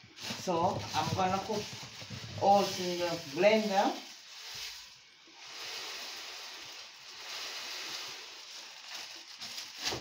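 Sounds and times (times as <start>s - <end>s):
pot of water hissing on stove: 0.0s - 10.0s.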